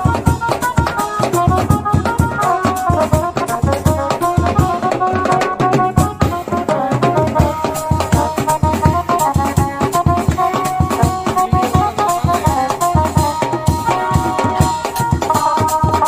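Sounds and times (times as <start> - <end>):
fast steady drum beat: 0.0 - 16.0
wind instrument melody: 0.0 - 16.0.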